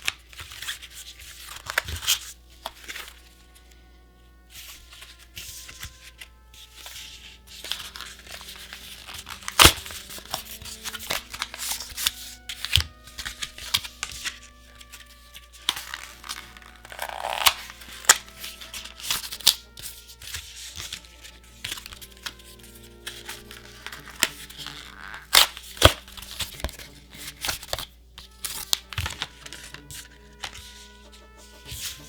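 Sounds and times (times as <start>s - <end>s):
packaging torn and crinkled: 0.0s - 3.2s, 7.4s - 30.6s
soft background music: 0.0s - 32.0s.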